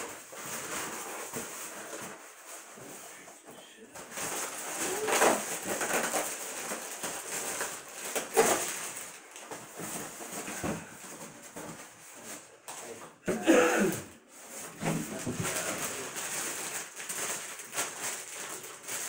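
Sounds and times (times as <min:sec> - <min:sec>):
styrofoam rubbing and creaking: 0:00.0 - 0:12.9, 0:14.2 - 0:19.0.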